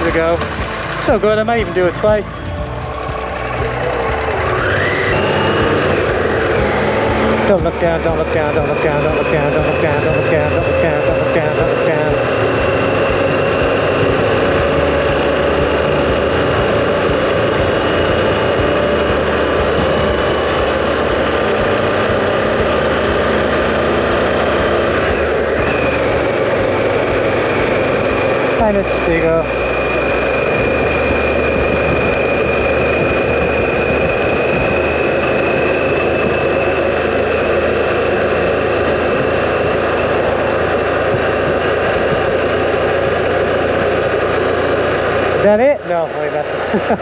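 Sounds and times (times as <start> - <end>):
motorcycle engine running: 0.0 - 47.0
thin high whine: 0.0 - 47.0
wind and road noise: 0.0 - 47.0.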